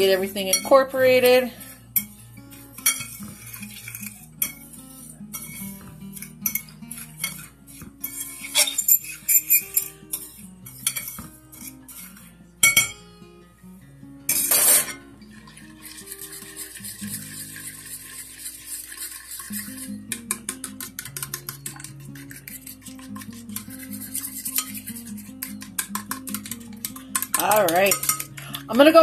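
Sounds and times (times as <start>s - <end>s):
soft background music: 0.0s - 29.0s
fork scraping glass dish: 1.6s - 12.3s, 14.3s - 28.7s.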